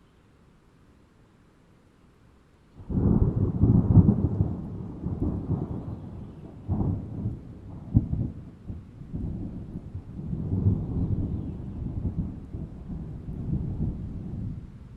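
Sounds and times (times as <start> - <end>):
faint hiss: 0.0 - 14.9
thunder clap and rumble: 2.8 - 14.8.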